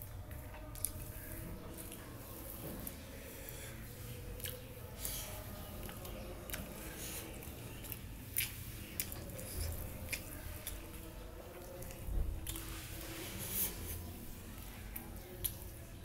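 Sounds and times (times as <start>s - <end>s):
chewing and wet smacking: 0.0s - 16.0s.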